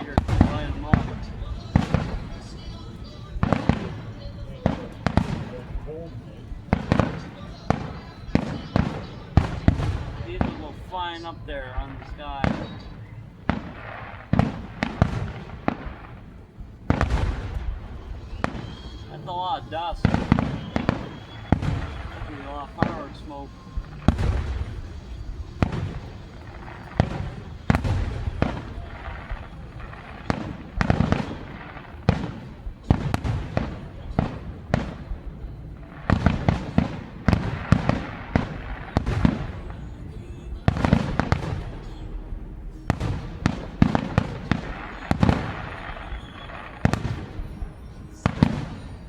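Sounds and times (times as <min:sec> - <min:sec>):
fireworks exploding with rumbling echo: 0:00.0 - 0:49.0.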